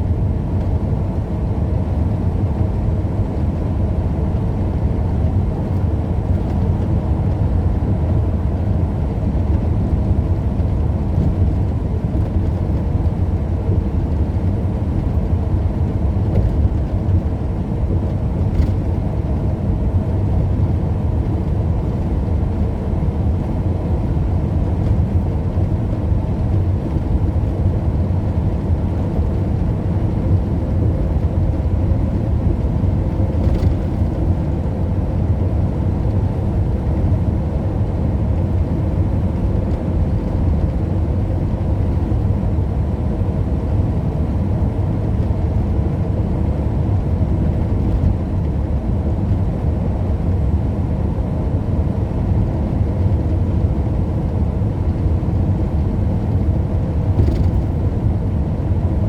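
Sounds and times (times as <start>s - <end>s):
engine and road rumble in cabin: 0.0s - 59.0s.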